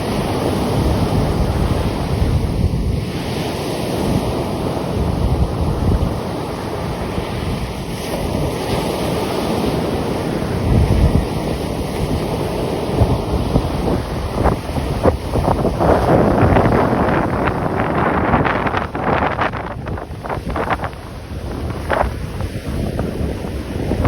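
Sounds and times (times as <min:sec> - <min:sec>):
sea surf washing in: 0:00.0 - 0:24.0
wind buffeting the microphone: 0:00.0 - 0:24.0.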